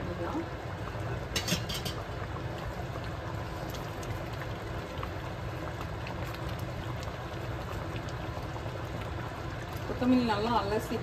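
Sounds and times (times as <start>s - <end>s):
curry bubbling in a pot: 0.0s - 11.0s.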